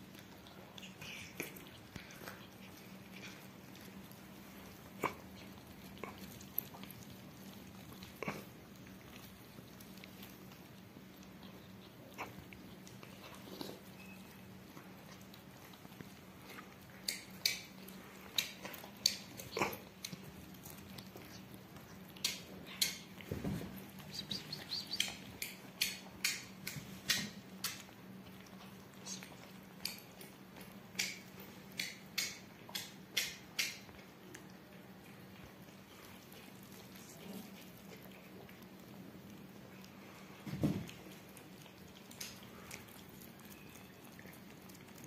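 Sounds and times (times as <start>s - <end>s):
cats chewing chicken: 0.0s - 45.0s
faint low hum: 0.0s - 45.0s.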